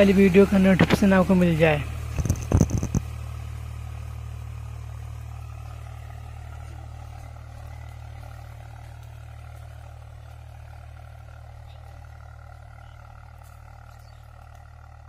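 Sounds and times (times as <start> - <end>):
tractor diesel engine running hard: 0.0 - 15.0.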